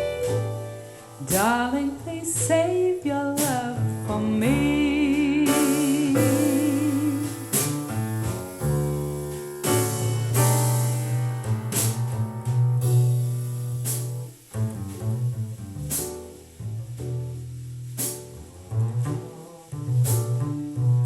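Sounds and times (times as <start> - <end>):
low bass notes: 0.0 - 21.0
piano chords: 0.0 - 21.0
slow jazz ballad: 0.0 - 21.0.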